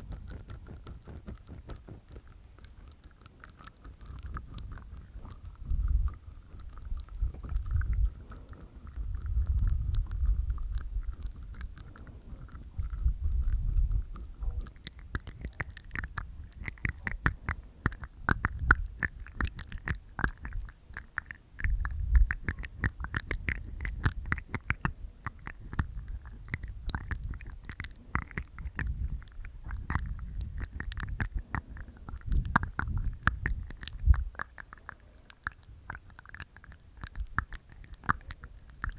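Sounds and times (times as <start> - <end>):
small wet mouth clicks: 0.0 - 38.9
wet mouth sounds: 0.0 - 38.9.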